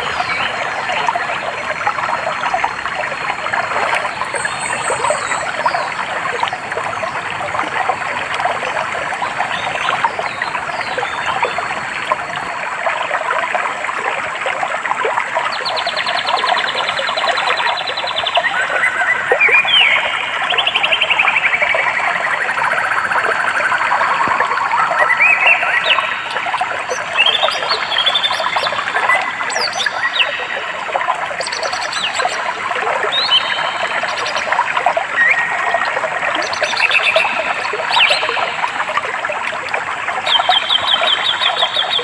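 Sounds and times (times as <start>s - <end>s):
stream trickling over stones: 0.0s - 42.0s.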